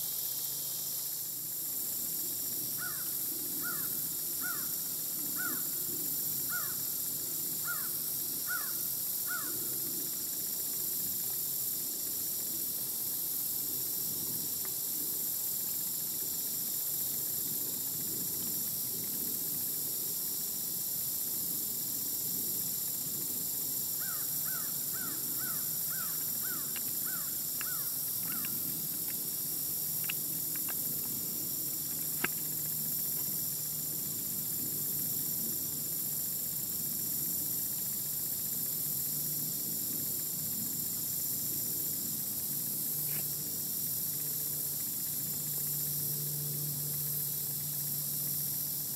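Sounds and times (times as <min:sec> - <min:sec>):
steady high hiss: 0:00.0 - 0:48.9.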